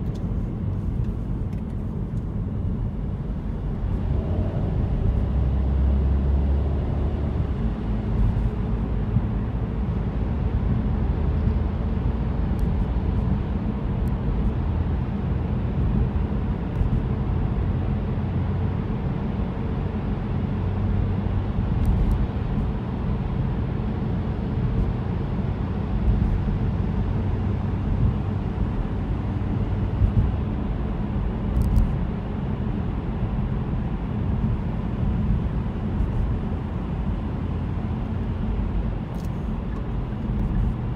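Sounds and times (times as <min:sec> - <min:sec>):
car driving through tunnel: 0:00.0 - 0:40.9.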